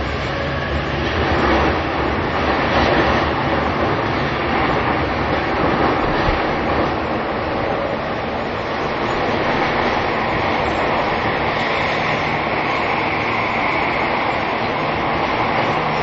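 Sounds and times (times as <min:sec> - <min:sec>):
train wheels rumbling on rail: 0:00.0 - 0:16.0
tunnel roar: 0:00.0 - 0:16.0.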